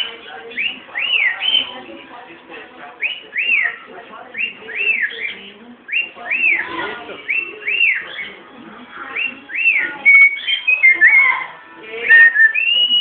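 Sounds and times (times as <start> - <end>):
cockatiel whistling: 0.5 - 1.8, 3.0 - 8.4, 9.1 - 13.0.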